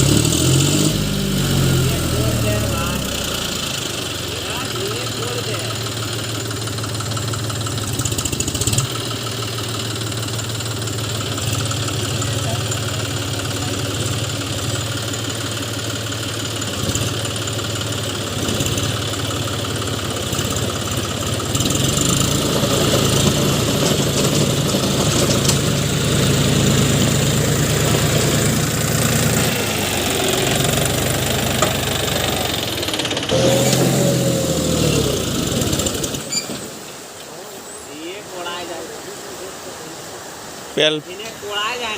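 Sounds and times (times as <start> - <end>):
tractor diesel engine running: 0.0 - 37.4.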